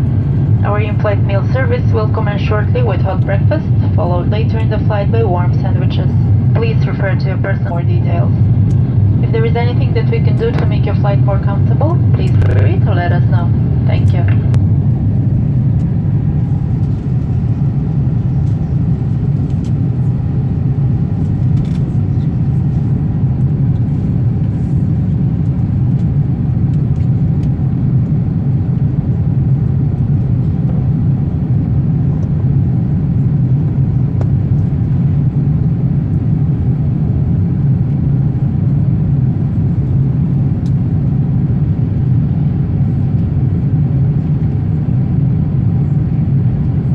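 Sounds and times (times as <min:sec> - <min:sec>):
aircraft cabin engine rumble: 0:00.0 - 0:46.9.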